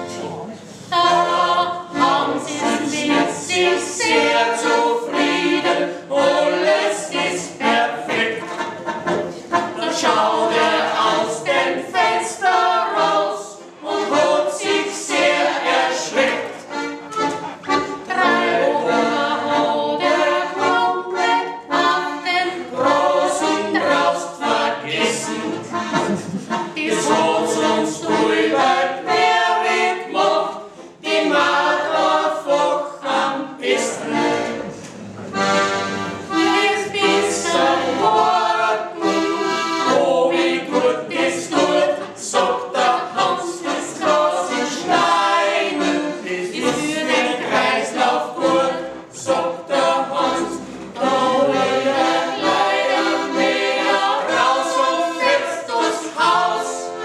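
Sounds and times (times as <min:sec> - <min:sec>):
accordion: 0:00.0 - 0:57.0
voices singing together: 0:00.0 - 0:57.0.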